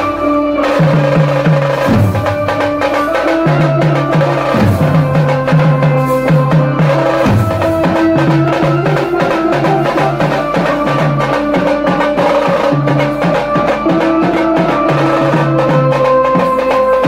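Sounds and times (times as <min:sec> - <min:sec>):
bass drums and snare drums beaten: 0:00.0 - 0:17.0.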